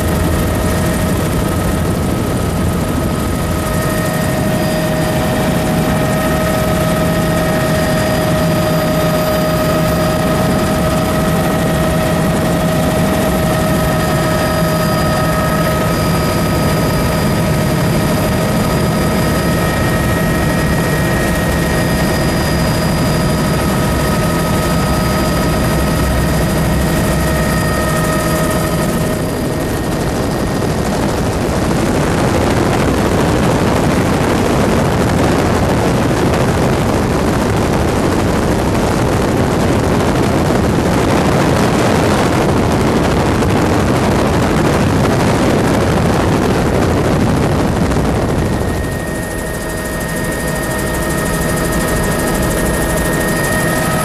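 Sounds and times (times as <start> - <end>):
helicopter engine and rotor noise: 0.0 - 54.0
helicopter turbine whine: 0.0 - 54.0.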